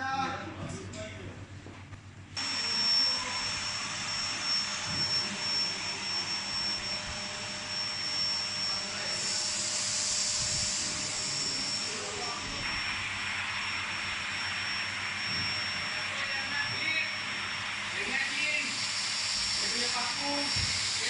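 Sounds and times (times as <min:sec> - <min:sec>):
vacuum cleaner running: 0:02.4 - 0:21.0.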